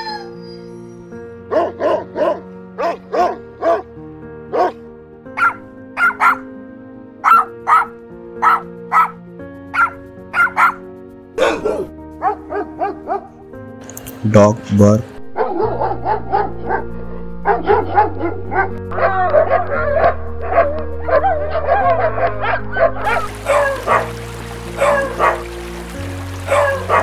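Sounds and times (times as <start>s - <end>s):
dogs barking and yipping: 0.0s - 3.9s, 4.5s - 4.8s, 5.4s - 6.5s, 7.2s - 13.4s, 15.4s - 27.0s
background music of held chords: 0.0s - 27.0s.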